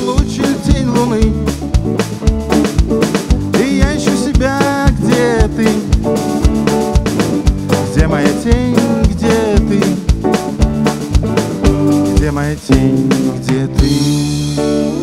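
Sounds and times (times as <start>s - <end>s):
electronic drum beat: 0.0s - 15.0s
live band playing instrumental: 0.0s - 15.0s.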